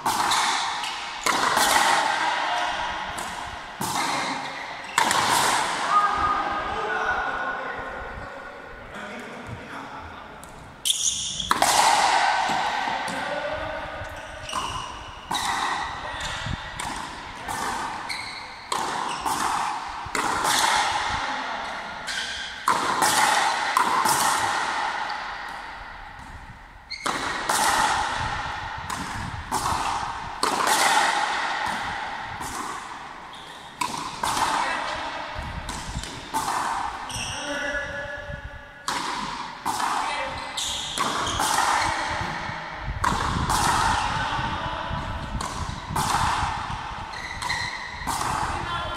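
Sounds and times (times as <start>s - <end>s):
rubber ball hitting rackets and wall: 0.0s - 6.0s, 10.4s - 13.5s, 14.1s - 37.3s, 38.8s - 48.9s.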